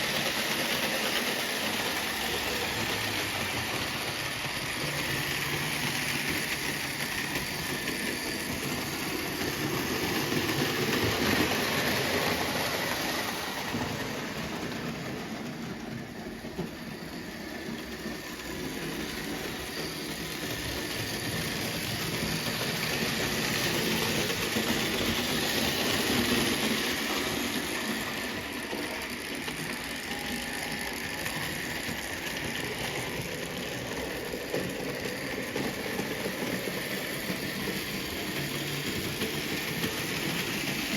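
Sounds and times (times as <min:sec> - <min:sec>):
model train motor whirring: 0:00.0 - 0:40.9
model train wheels rumbling: 0:00.0 - 0:40.9.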